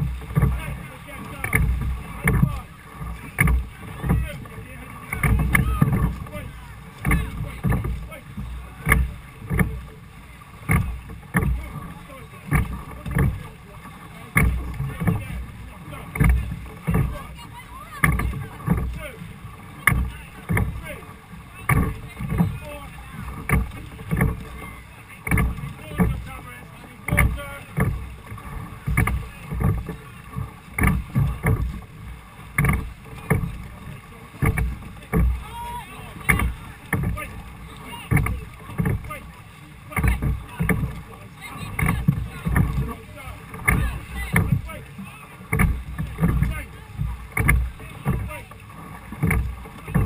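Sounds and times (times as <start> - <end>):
oars knocking in thole pins: 0.0 - 50.0
wind and water rushing: 0.0 - 50.0.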